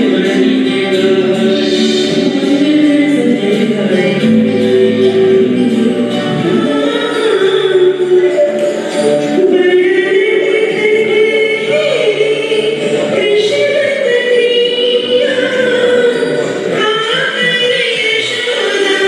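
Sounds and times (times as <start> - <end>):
musical accompaniment: 0.0 - 19.0
person singing long gliding notes: 0.0 - 19.0.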